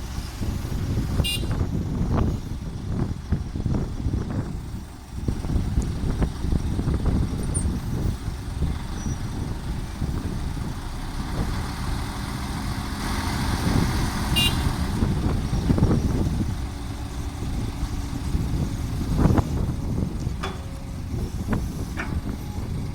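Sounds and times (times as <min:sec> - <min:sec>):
diesel engine rumbling: 0:00.0 - 0:22.9.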